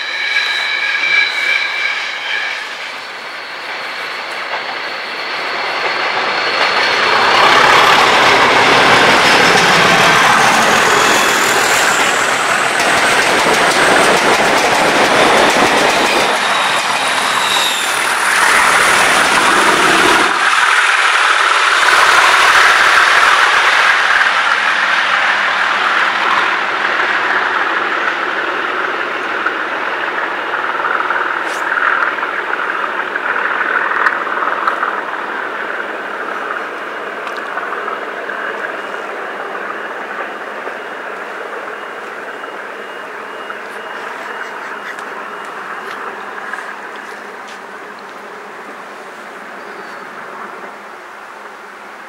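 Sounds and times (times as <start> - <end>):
rumble of passing train: 0.0 - 52.0.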